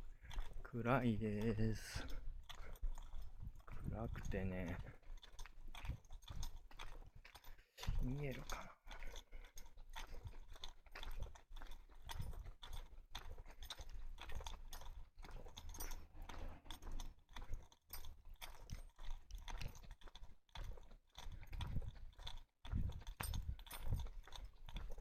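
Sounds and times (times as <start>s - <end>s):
crunching footsteps: 0.0s - 25.0s.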